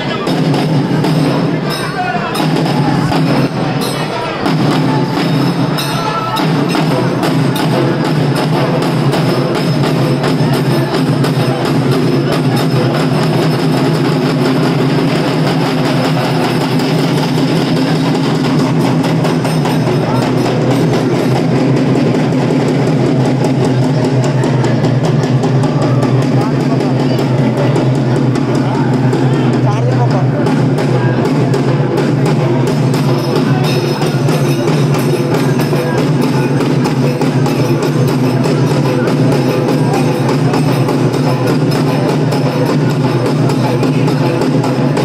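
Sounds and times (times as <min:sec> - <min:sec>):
fast steady drumming: 0:00.0 - 0:45.0
large crowd din: 0:00.0 - 0:45.0.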